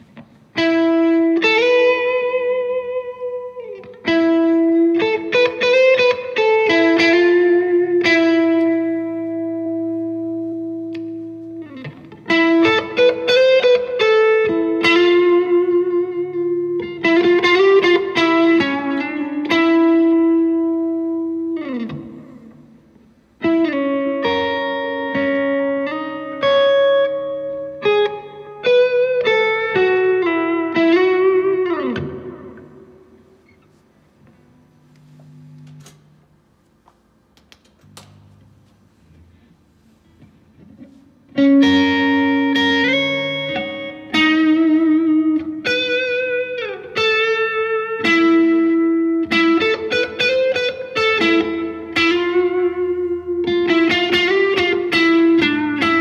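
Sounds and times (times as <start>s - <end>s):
electric guitar melody: 0.0s - 36.4s, 40.2s - 56.0s.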